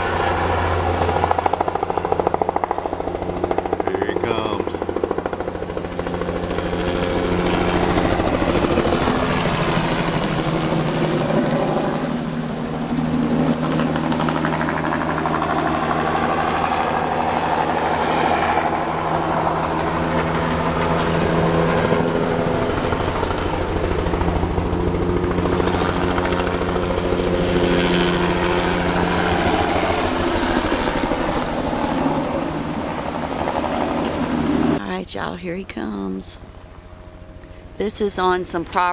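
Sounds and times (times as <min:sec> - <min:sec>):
helicopter engine: 0:00.0 - 0:38.9
helicopter rotor beating: 0:00.0 - 0:38.9.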